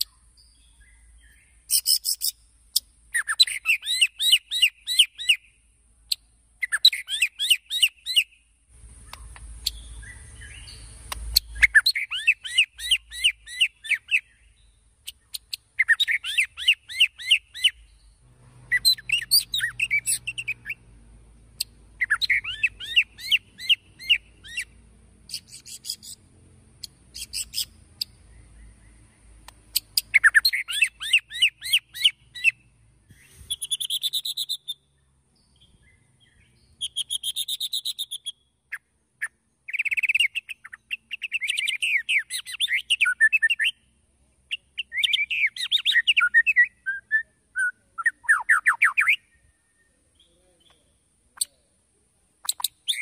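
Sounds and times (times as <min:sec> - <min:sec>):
bird singing whistled notes: 0:00.0 - 0:20.9, 0:21.6 - 0:26.2, 0:26.8 - 0:43.9, 0:44.5 - 0:51.6, 0:52.4 - 0:53.0.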